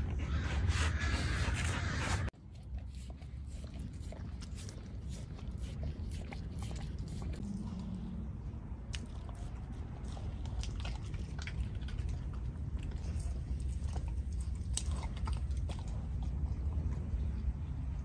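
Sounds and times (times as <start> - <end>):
dog licking and gnawing: 2.3 - 17.2
steady low rumble: 3.3 - 18.0.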